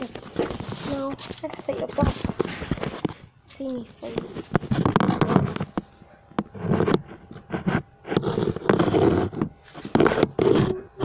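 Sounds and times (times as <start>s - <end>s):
phone scraping against microphone: 0.0s - 3.2s, 4.0s - 5.8s, 6.4s - 11.0s.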